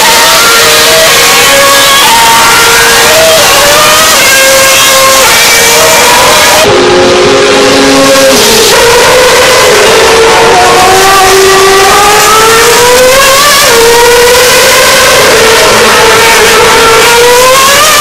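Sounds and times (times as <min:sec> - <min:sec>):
race car engines at high revs: 0:00.0 - 0:18.0
steady rush of noise: 0:00.6 - 0:18.0.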